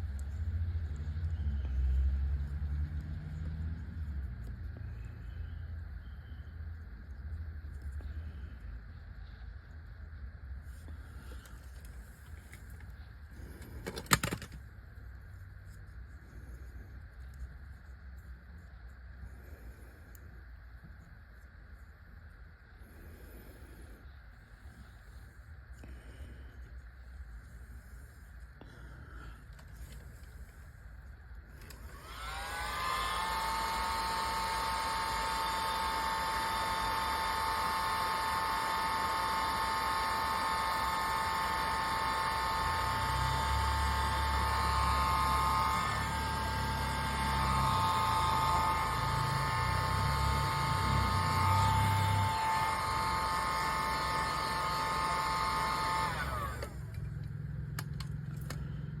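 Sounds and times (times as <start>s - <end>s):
heat gun fan whine: 0.0s - 59.0s.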